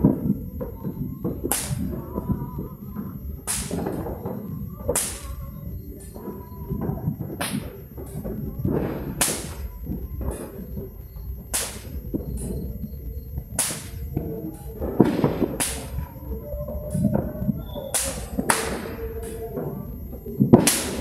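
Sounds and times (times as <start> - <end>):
firecrackers cracking: 0.0 - 21.0.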